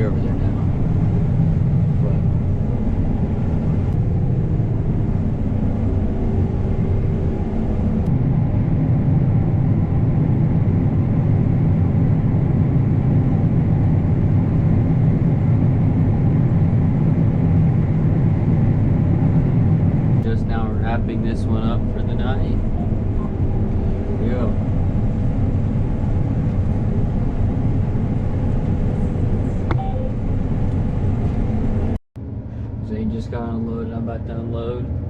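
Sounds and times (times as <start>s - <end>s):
combine harvester engine hum: 0.0s - 35.0s.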